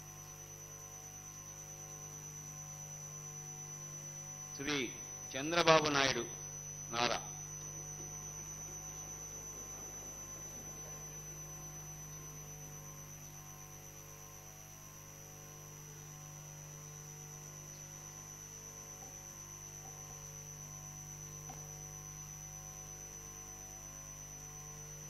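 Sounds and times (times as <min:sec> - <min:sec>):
electrical hum: 0:00.0 - 0:25.0
thin high whine: 0:00.0 - 0:25.0.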